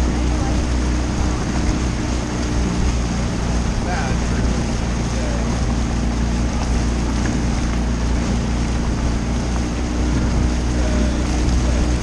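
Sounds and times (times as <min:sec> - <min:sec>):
outboard motor running: 0:00.0 - 0:12.0
rushing water: 0:00.0 - 0:12.0
wind buffeting microphone: 0:00.0 - 0:12.0.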